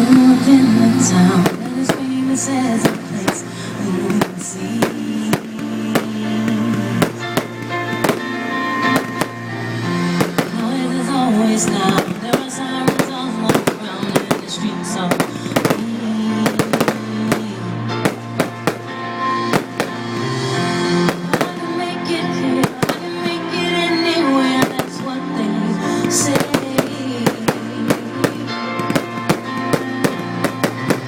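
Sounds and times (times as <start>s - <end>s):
fireworks bangs and crackles: 0.0s - 31.0s
loud music: 0.0s - 31.0s.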